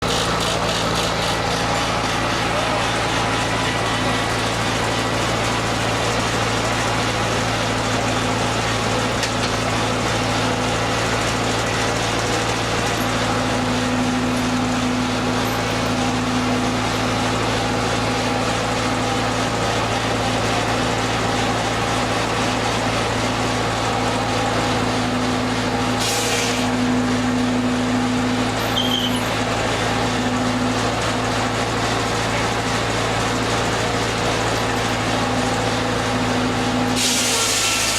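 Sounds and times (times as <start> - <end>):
machinery mechanical hum: 0.0 - 37.9.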